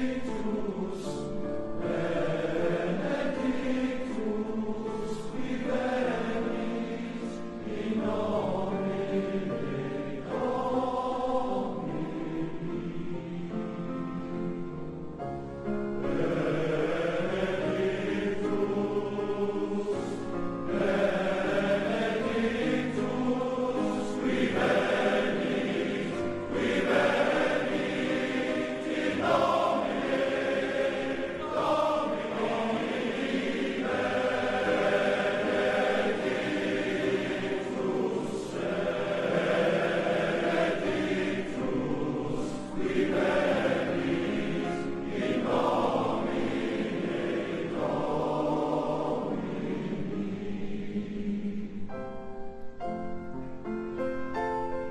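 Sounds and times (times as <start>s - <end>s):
male choir singing in harmony: 0.0s - 52.2s.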